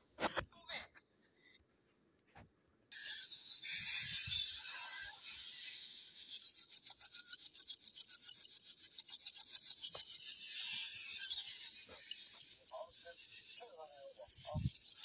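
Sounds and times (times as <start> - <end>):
baby birds chirping: 3.0 - 15.0.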